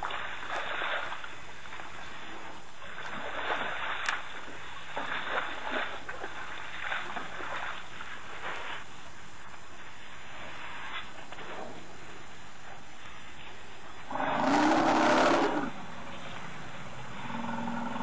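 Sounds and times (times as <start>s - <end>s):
water and mud sloshing: 0.0s - 18.0s.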